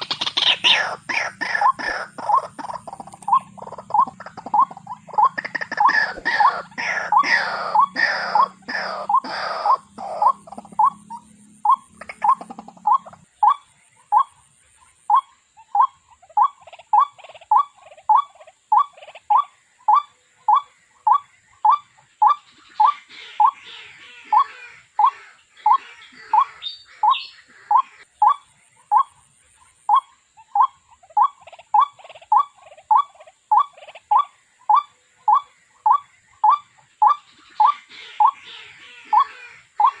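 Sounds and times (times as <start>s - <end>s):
waterhen calling: 0.0s - 40.0s.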